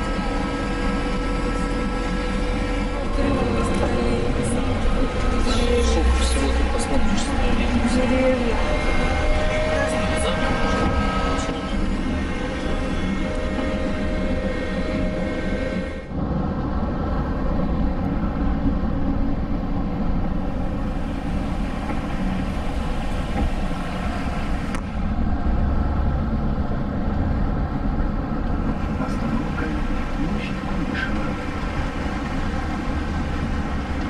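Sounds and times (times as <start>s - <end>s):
trolleybus low rumble: 0.0s - 34.0s.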